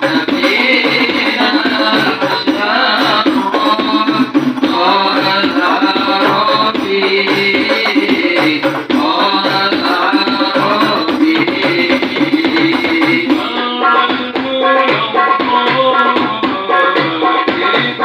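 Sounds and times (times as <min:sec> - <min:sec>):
frame drums beating: 0:00.0 - 0:18.0
voices singing: 0:00.0 - 0:18.0.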